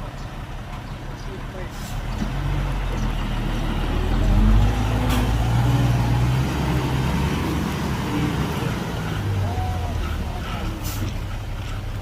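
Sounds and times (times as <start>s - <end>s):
heavy diesel engine under load: 0.0s - 12.0s.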